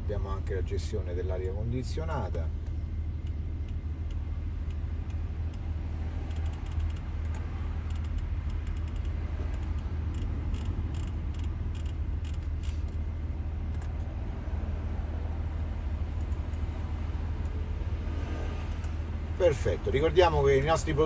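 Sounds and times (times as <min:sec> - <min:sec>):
car cabin hum: 0:00.0 - 0:21.0.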